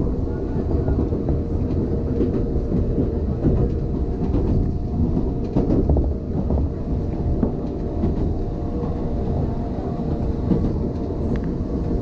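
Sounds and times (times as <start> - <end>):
train wheels rumbling on rail: 0.0 - 12.0
sharp clacks of train wheels: 0.4 - 12.0.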